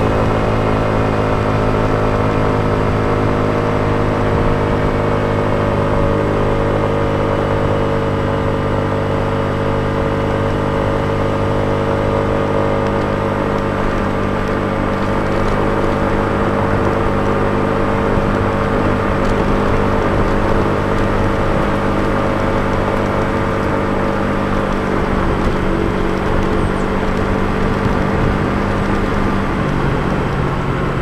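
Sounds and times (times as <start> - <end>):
scooter engine running: 0.0 - 31.0
wind and road noise: 0.0 - 31.0.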